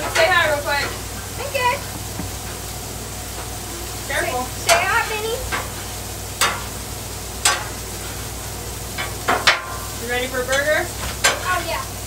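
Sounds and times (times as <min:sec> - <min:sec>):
patties and onions sizzling: 0:00.0 - 0:12.0.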